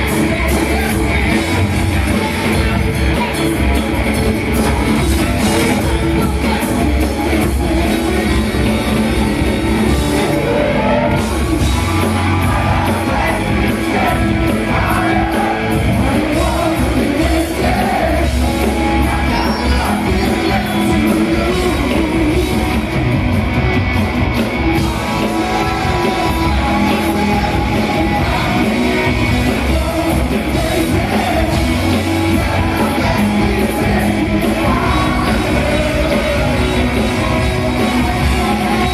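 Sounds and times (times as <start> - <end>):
man singing lead vocal: 0.0 - 3.6, 4.6 - 22.9, 24.8 - 38.9
bass guitar: 0.0 - 38.9
drum kit: 0.0 - 38.9
electric guitar: 0.0 - 38.9.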